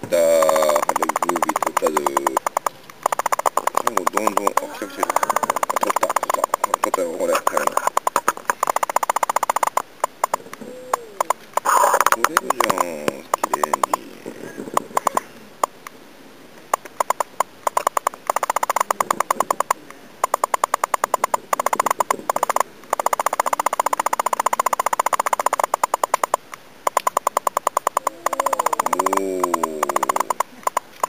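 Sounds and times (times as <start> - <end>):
frogs calling in clicking pulses: 0.0 - 16.0, 16.6 - 31.0.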